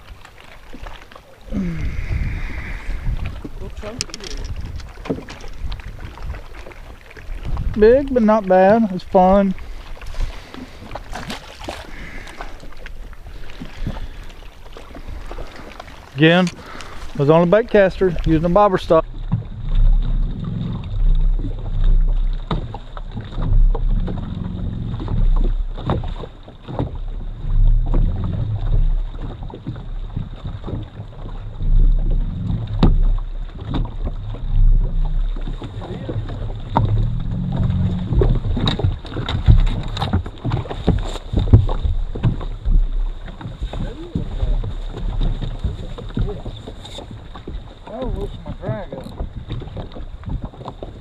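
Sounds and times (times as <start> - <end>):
water slapping against boat hull: 0.0 - 51.0
wind rumbling on microphone: 0.0 - 51.0.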